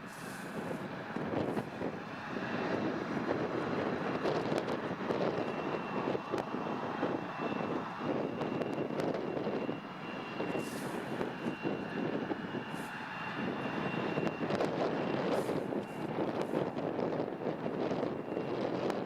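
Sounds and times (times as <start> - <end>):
airliner engines rushing: 0.0 - 19.0
high steady whine: 0.0 - 19.0.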